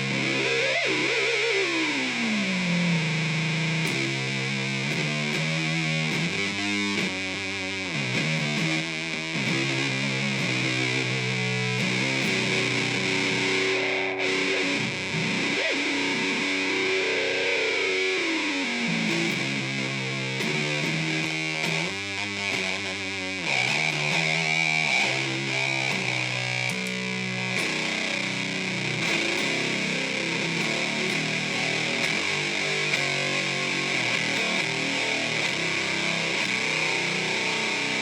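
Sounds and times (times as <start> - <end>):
distorted electric guitar: 0.0 - 38.0.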